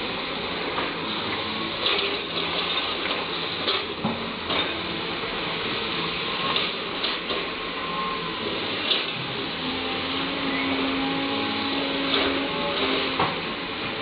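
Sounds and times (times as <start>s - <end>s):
excavator engine and hydraulics: 0.0s - 14.0s.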